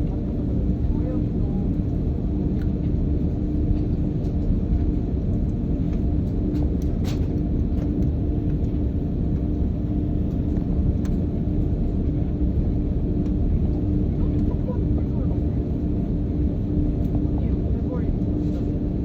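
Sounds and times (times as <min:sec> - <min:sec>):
constant hum: 0:00.0 - 0:19.0
jet airliner cabin rumble: 0:00.0 - 0:19.0.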